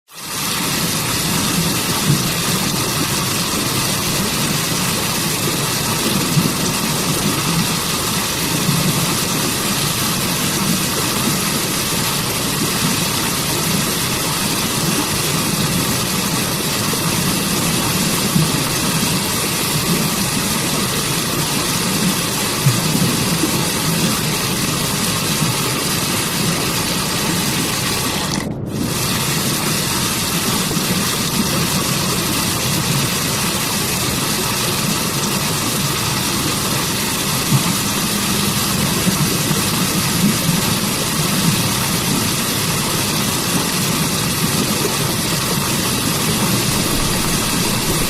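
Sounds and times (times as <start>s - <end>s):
waterfall rushing: 0.2s - 48.0s.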